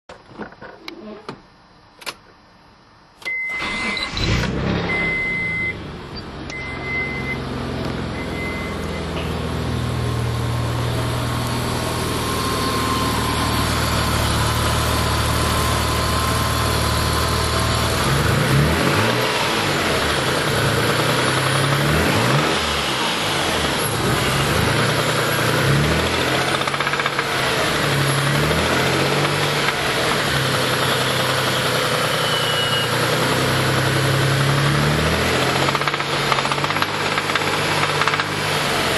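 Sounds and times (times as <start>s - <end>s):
car engine starting and idling: 3.2s - 32.3s, 32.9s - 38.9s
engine revving: 3.6s - 38.9s.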